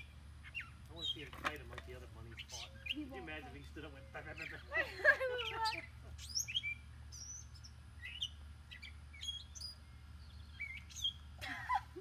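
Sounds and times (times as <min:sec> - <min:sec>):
birds chirping: 0:00.0 - 0:12.0
low steady hum: 0:00.0 - 0:12.0.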